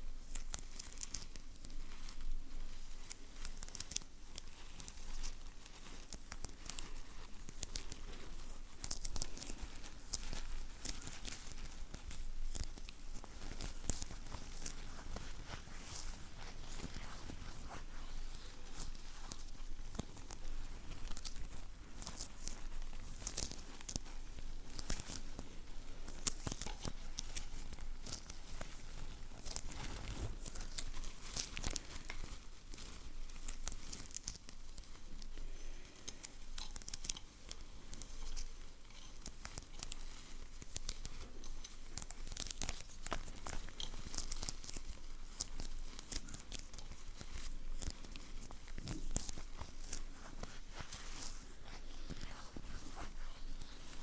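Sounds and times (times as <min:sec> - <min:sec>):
crinkling: 0:00.0 - 0:54.0
sticky material peeling crackles: 0:00.2 - 0:54.0.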